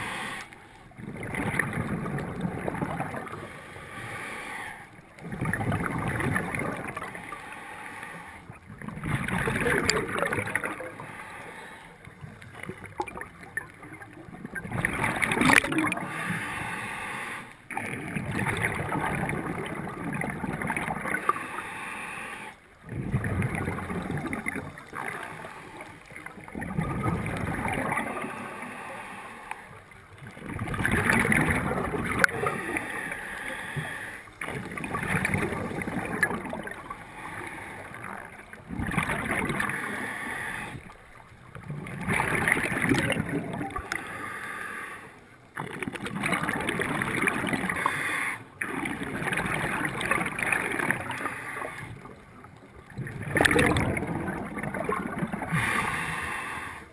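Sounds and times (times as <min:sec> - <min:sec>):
scuba diver breathing underwater: 0:00.0 - 0:13.2, 0:14.9 - 0:29.9, 0:31.0 - 0:41.0, 0:41.8 - 0:52.2, 0:53.3 - 0:56.9
gurgling exhaled bubbles: 0:00.8 - 0:03.8, 0:05.0 - 0:07.4, 0:08.5 - 0:11.2, 0:12.0 - 0:16.6, 0:17.7 - 0:21.7, 0:22.8 - 0:28.6, 0:29.8 - 0:44.1, 0:45.4 - 0:56.4.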